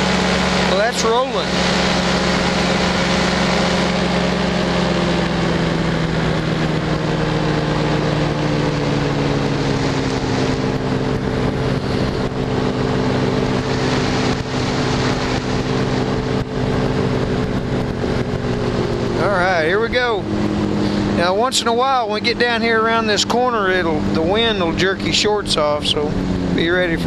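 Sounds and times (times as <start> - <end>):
engine and propeller droning: 0.0 - 27.0.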